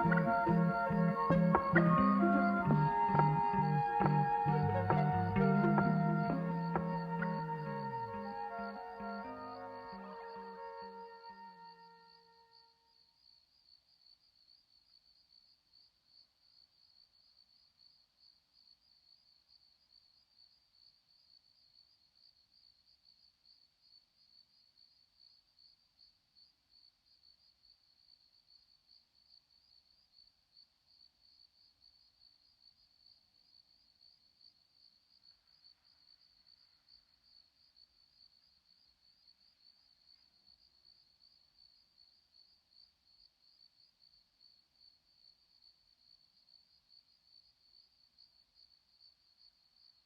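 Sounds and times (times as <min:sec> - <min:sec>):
faint crickets chirping: 0:00.0 - 0:50.0.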